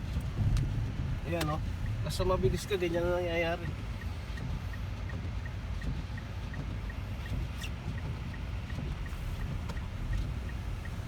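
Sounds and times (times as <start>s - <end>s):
car engine rumble inside cabin: 0.0s - 11.0s
faint light ticking: 0.1s - 11.0s.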